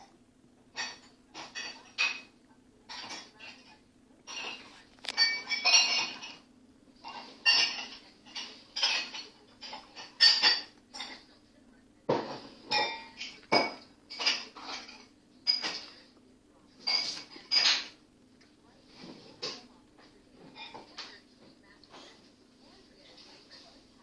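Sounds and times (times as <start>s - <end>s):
dishes clinking in washing: 0.0s - 11.4s, 12.1s - 18.0s, 18.9s - 22.4s.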